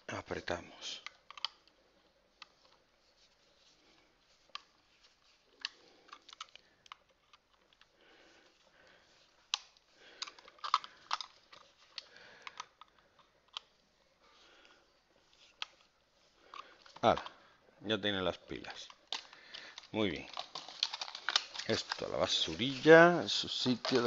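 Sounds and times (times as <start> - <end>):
plastic parts handled: 0.9 - 13.8, 14.4 - 17.5, 18.4 - 24.0.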